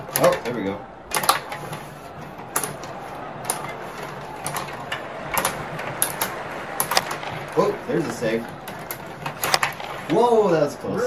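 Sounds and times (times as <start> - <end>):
plastic players and puck clacking: 0.0 - 11.0
rods sliding and spinning: 0.0 - 11.0.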